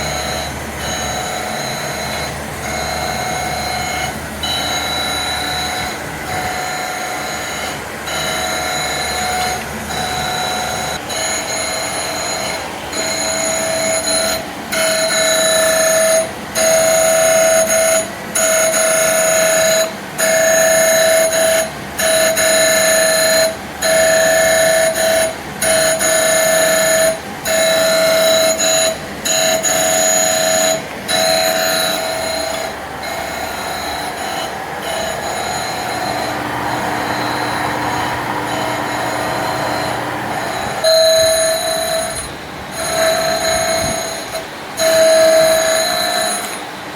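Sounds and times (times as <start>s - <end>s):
grinder high-pitched whine: 0.0s - 46.9s.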